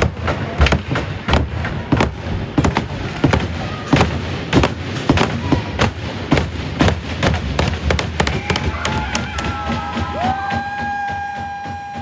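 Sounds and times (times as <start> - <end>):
hockey sticks and pucks clacking: 0.0 - 10.3.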